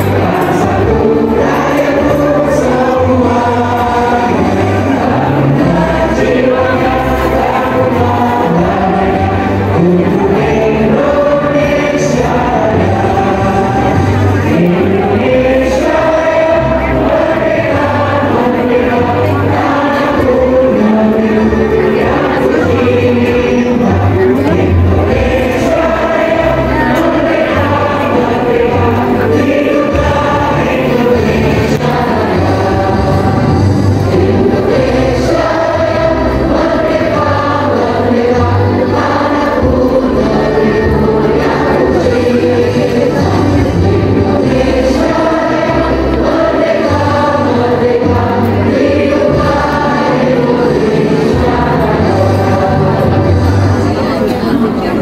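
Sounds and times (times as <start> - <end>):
women singing in unison: 0.0 - 53.2
musical accompaniment: 0.0 - 55.0.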